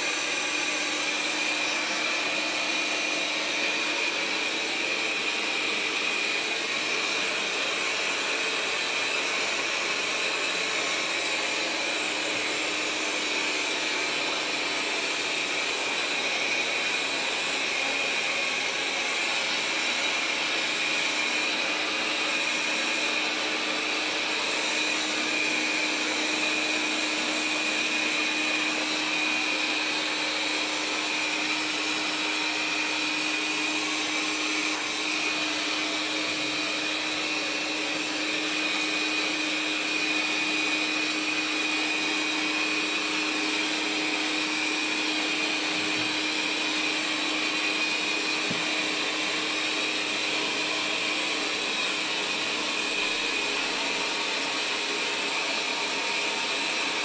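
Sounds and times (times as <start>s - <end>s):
robot vacuum motor whir: 0.0s - 57.0s.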